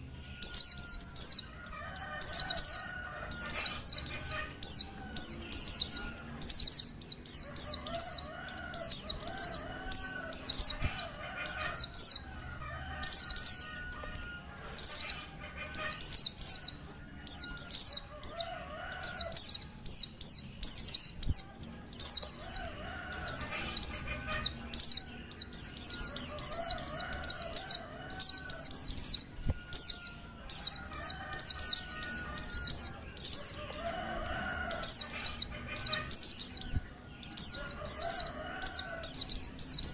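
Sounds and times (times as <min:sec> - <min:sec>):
bird high rapid calls: 0:00.0 - 0:39.9.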